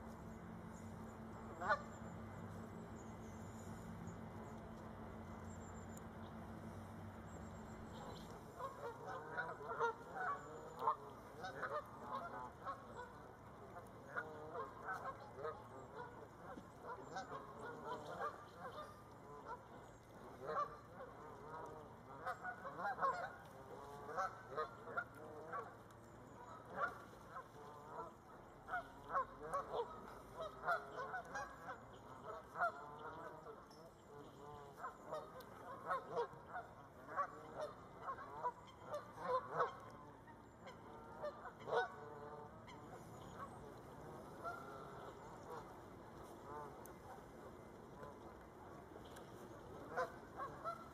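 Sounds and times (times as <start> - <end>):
geese honking: 0.0 - 50.9.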